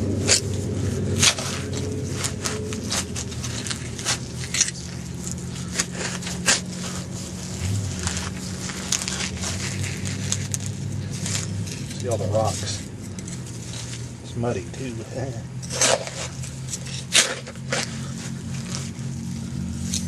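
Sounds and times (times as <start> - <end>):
digging tool scraping rocky soil: 0.2 - 14.1, 15.6 - 20.0.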